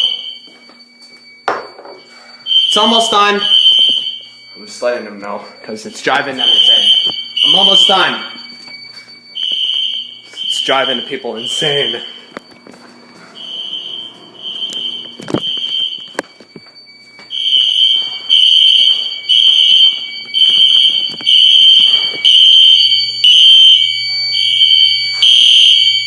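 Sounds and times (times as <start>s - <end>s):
fire alarm beeping: 0.0s - 26.0s
steady high tone: 0.0s - 26.0s.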